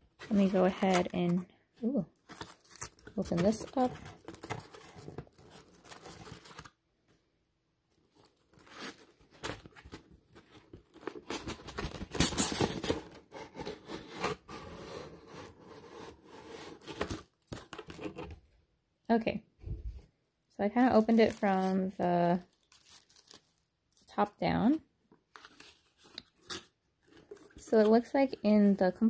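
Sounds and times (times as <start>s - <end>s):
cardboard box and packing rustling: 0.1s - 6.8s, 7.9s - 18.4s, 20.8s - 23.6s, 25.2s - 28.8s.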